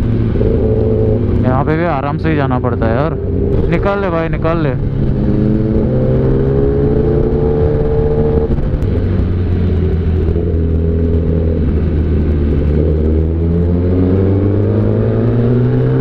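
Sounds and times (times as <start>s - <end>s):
motorcycle engine while riding: 0.0s - 16.0s.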